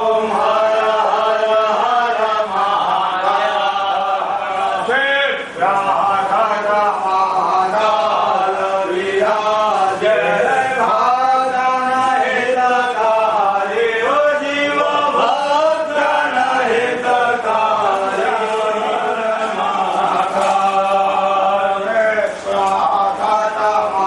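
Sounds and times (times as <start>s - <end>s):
voices chanting: 0.0s - 24.0s.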